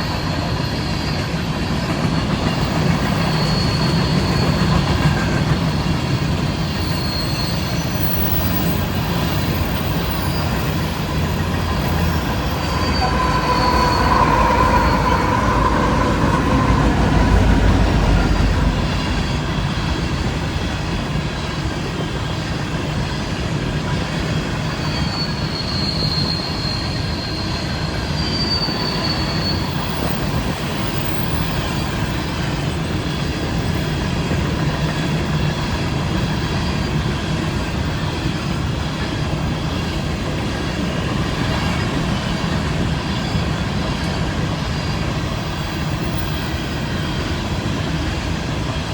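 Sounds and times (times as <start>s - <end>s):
high wheel squeals: 0.0s - 22.4s, 23.0s - 48.9s
train wheels rumbling on rail: 0.0s - 48.9s.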